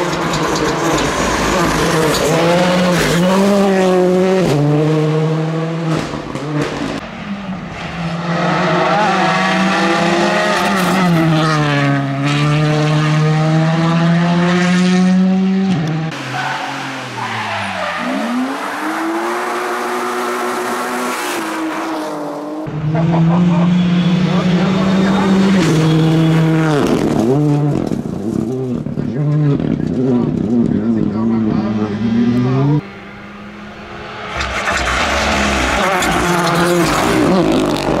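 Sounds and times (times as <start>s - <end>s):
rally car engines revving hard: 0.0s - 38.0s.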